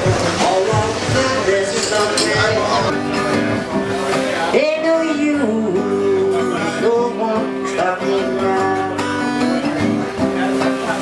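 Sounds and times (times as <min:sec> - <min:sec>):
person singing: 0:00.0 - 0:11.0
strummed acoustic guitar: 0:00.0 - 0:11.0.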